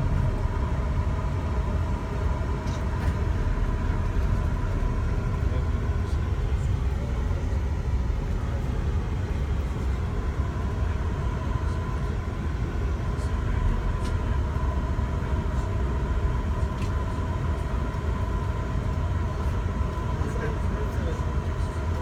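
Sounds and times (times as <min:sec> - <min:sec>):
vehicle rumble: 0:00.0 - 0:20.4
faint steady whine: 0:00.0 - 0:22.0.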